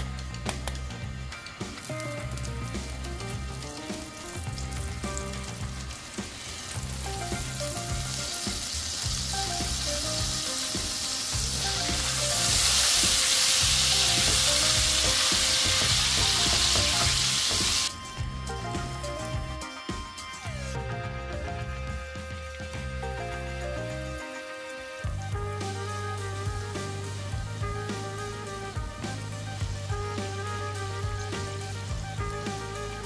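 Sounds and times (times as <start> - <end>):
butter and oil sizzling in pan: 0.0 - 19.6, 22.6 - 33.0.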